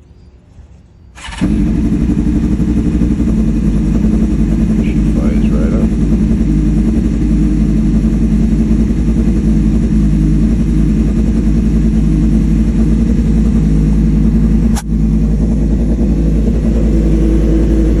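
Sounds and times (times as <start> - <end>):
motorcycle engine idling: 1.2 - 18.0.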